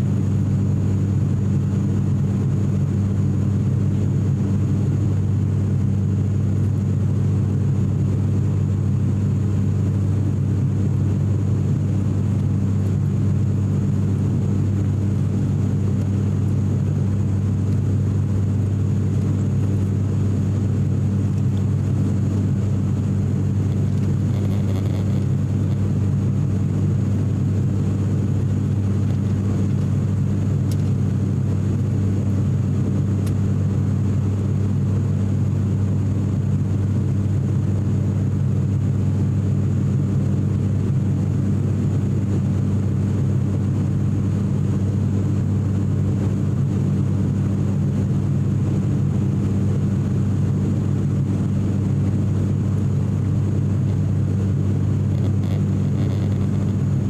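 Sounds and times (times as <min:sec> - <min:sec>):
turboprop cabin drone: 0:00.0 - 0:57.0.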